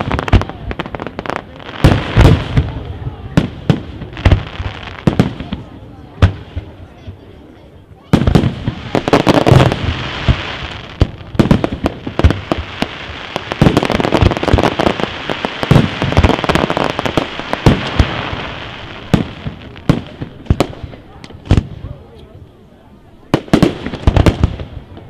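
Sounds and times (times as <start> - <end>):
fireworks bangs: 0.0 - 7.3, 8.0 - 22.1, 23.3 - 25.0
fireworks crackle: 0.0 - 7.4, 8.0 - 22.1, 23.3 - 25.0.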